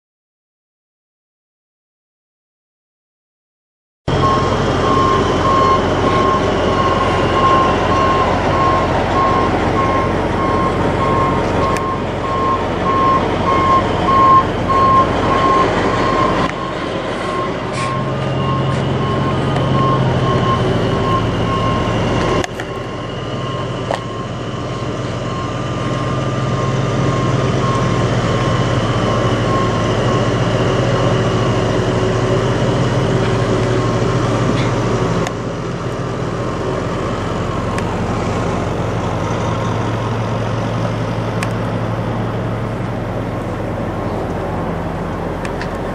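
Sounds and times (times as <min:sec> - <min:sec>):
diesel truck engine idling: 0:04.1 - 0:45.9.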